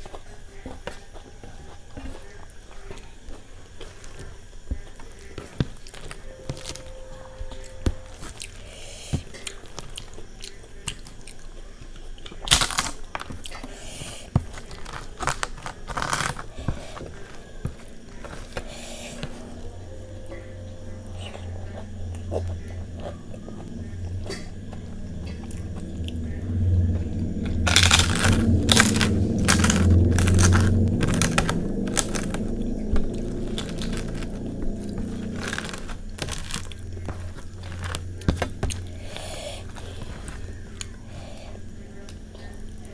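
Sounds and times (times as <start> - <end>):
chewing: 0.0 - 42.9
crunching crisp fried wafers: 0.0 - 42.9
low steady hum: 0.0 - 42.9.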